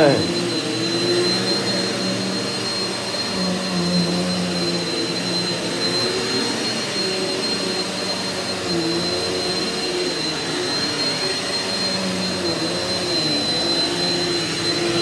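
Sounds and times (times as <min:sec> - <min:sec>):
high-pitched motor whine: 0:00.0 - 0:15.0
vacuum cleaner on carpet: 0:00.0 - 0:15.0.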